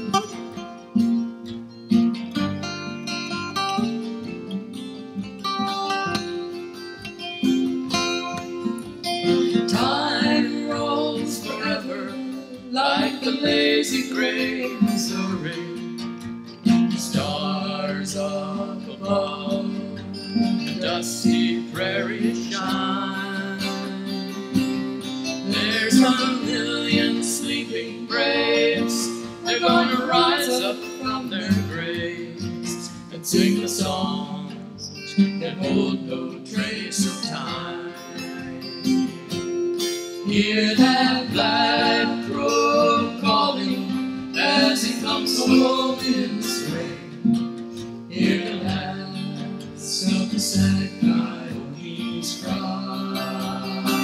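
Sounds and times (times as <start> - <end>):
acoustic guitar folk song: 0.0 - 54.0.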